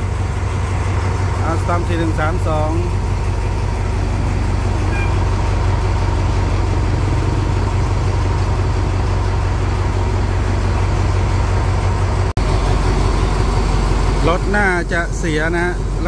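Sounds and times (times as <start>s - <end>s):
diesel locomotives idling: 0.0s - 16.0s.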